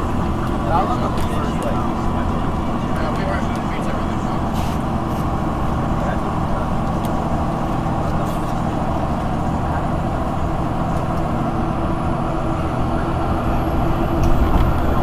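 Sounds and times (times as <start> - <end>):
diesel bus engine drone: 0.0 - 15.0
road noise: 0.0 - 15.0.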